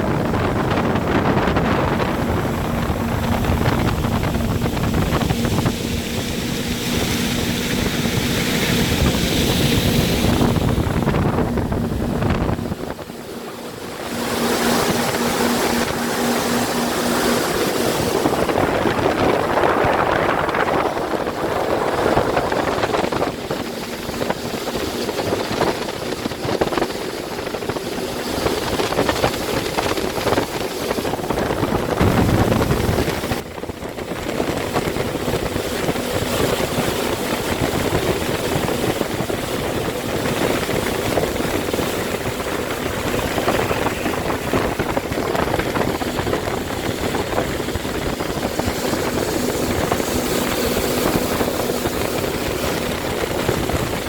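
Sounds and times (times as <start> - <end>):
jet ski engine running: 0.0 - 54.0
rough rushing noise: 0.0 - 54.0.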